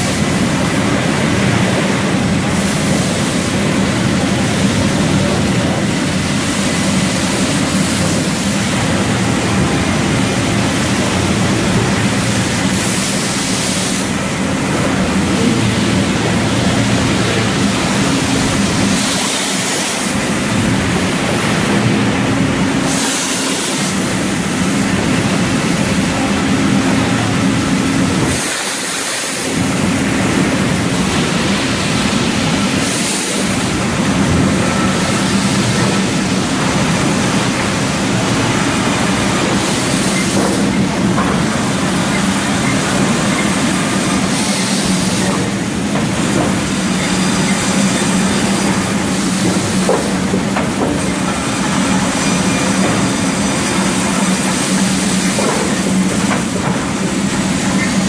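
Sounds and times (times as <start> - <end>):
mill machinery running: 0.0 - 58.0.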